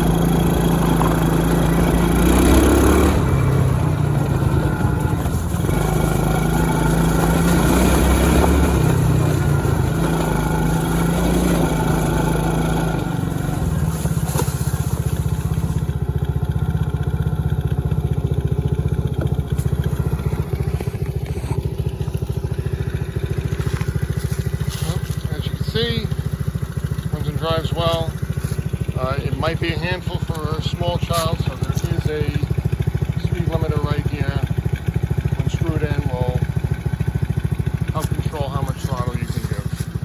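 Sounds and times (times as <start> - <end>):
small quad bike engine: 0.0 - 40.0.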